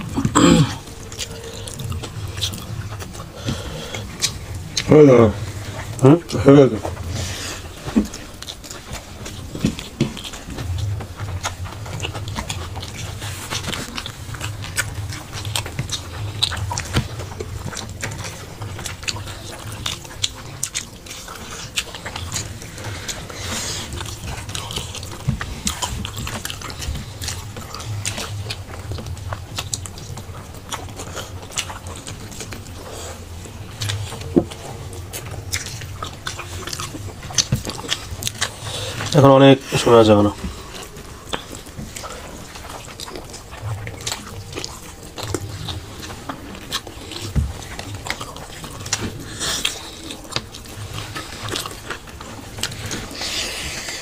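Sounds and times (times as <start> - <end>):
people chewing and lip-smacking: 0.0 - 54.0.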